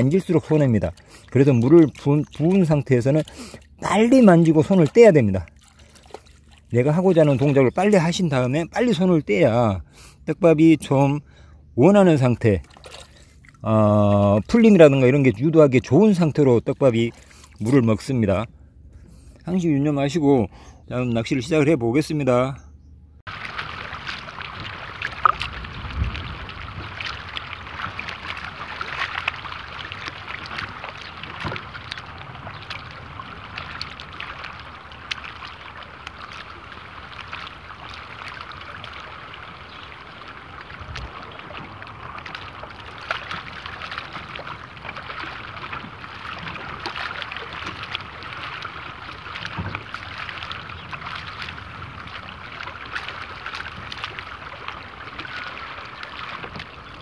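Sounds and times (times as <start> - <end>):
small waves lapping: 0.0 - 21.4, 23.3 - 57.0.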